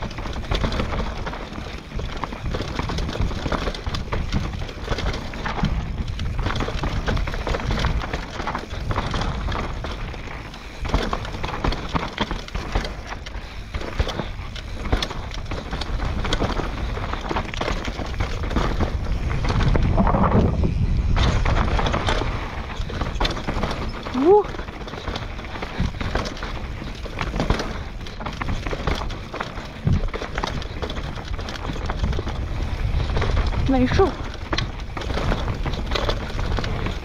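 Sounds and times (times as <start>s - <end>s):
bike knocking and rattling: 0.0s - 37.0s
bike tyres on dirt and rocks: 0.0s - 37.0s
wind rumble on microphone: 0.0s - 37.0s.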